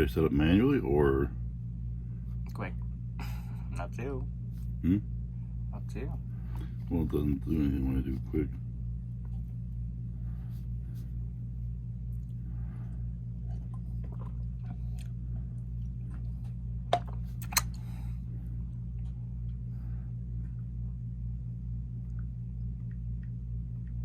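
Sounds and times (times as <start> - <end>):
low pulsing hum: 0.0 - 24.0.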